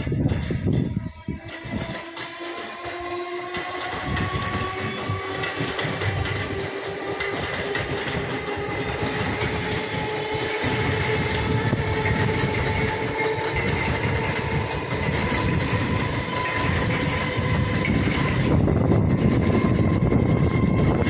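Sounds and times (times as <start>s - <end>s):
train wheels clattering: 0.0s - 21.0s
train whine: 0.0s - 21.0s.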